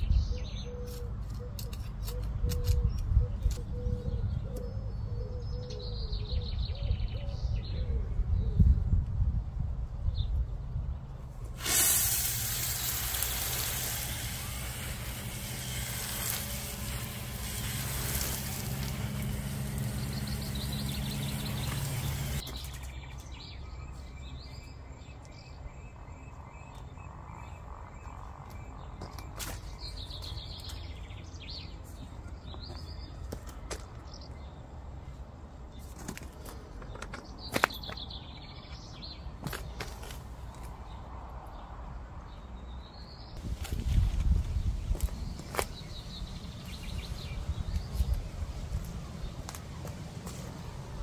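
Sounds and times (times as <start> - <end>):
birds chirping: 0.0 - 8.8, 12.6 - 51.0.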